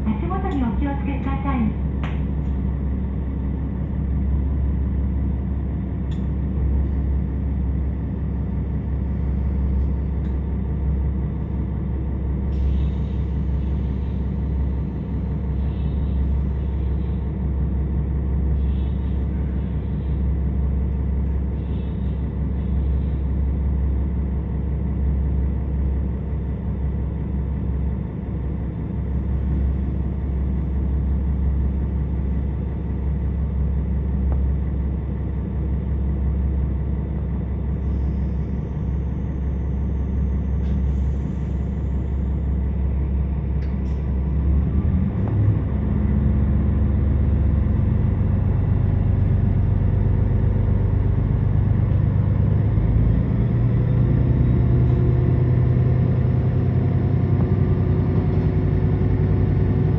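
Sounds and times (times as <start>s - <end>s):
diesel railcar engine rumble: 0.0s - 59.9s.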